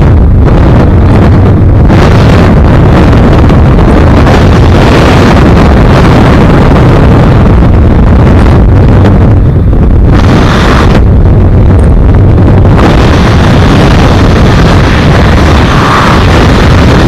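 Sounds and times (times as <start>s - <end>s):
wind buffeting a microphone: 0.0s - 17.0s.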